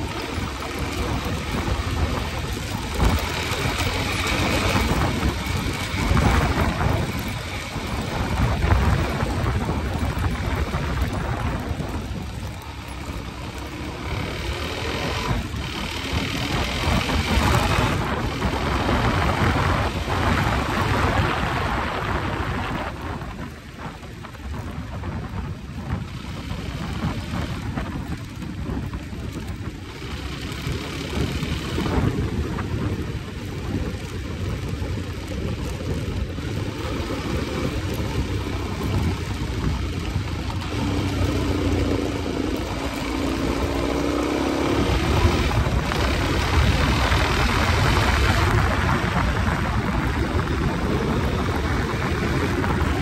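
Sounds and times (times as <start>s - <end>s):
motorcycle engine running: 0.0s - 53.0s
wind buffeting microphone: 0.0s - 53.0s.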